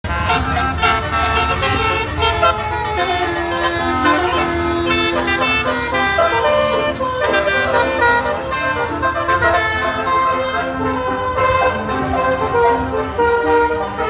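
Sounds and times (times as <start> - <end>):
multi-tone bus horn melody: 0.0 - 14.0.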